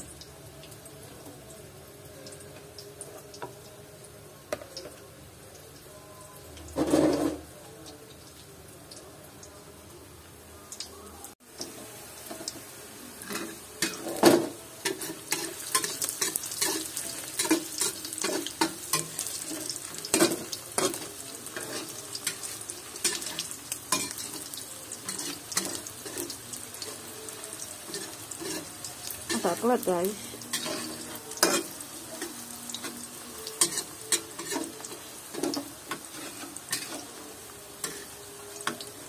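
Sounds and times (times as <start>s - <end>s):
sausages sizzling in hot oil: 0.0s - 39.0s.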